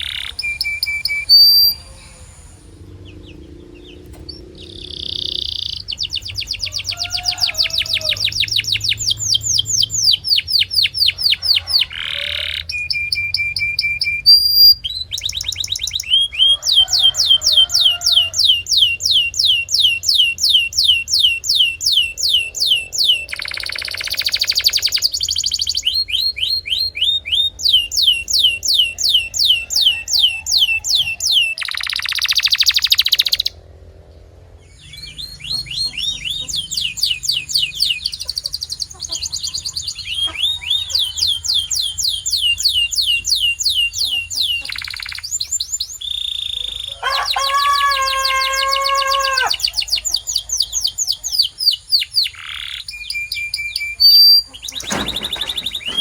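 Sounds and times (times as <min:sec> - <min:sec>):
canary singing trills: 0:00.0 - 0:33.6, 0:34.6 - 0:56.0.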